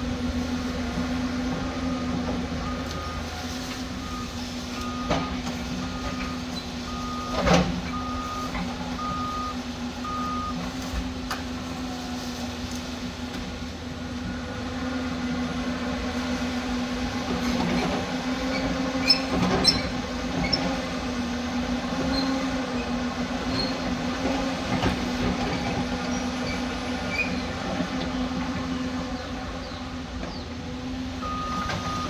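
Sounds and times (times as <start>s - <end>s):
diesel engine running under load: 0.0s - 32.0s.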